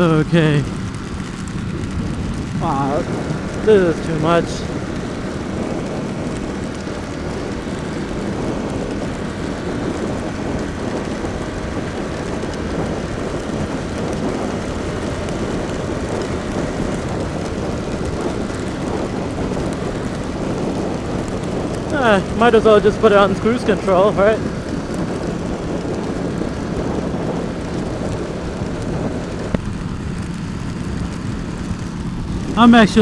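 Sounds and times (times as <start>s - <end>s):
motorcycle engine: 0.0s - 33.0s
wind and rain rushing: 0.0s - 33.0s.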